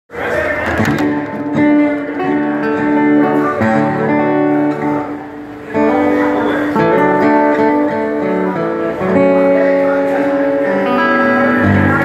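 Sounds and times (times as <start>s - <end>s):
acoustic guitar chords: 0.2s - 12.0s.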